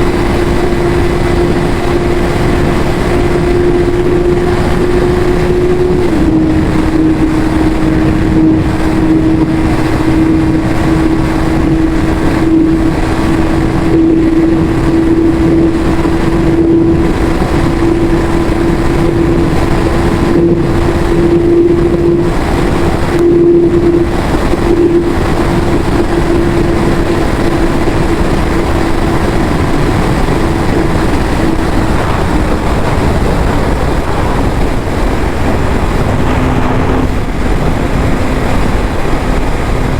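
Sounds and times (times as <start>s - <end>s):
motorcycle engine at high revs: 0.0s - 39.9s
steady rushing noise: 0.0s - 39.9s.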